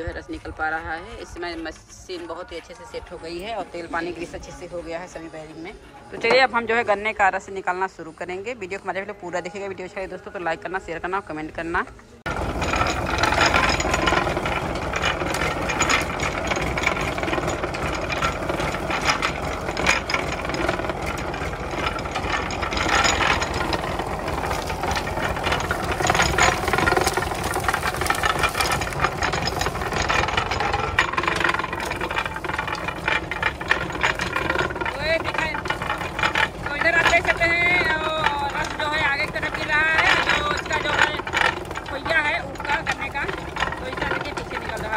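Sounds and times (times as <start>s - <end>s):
iron rollers rattling and clicking: 0.0s - 44.9s
tractor engine beating: 0.0s - 44.9s.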